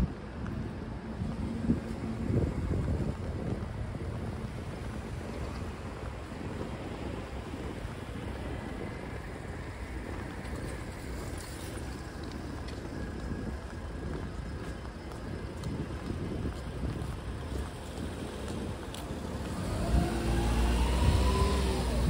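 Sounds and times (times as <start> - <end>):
traffic rumble: 0.0 - 22.0
wind buffeting microphone: 0.0 - 22.0.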